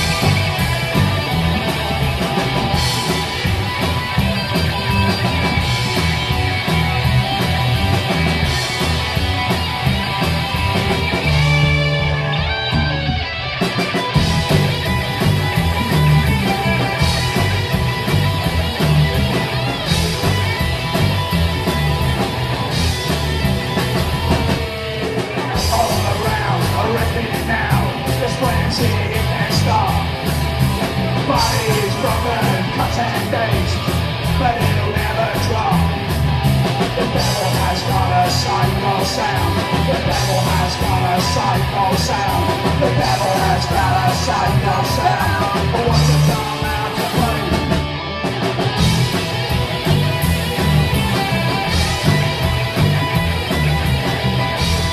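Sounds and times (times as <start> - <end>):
drum kit: 0.0 - 54.9
electric guitar: 0.0 - 54.9.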